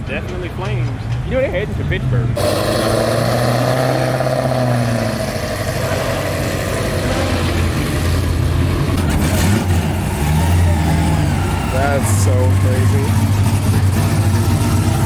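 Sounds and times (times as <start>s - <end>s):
road and wind noise: 0.0s - 15.0s
car exhaust engine note: 2.4s - 15.0s.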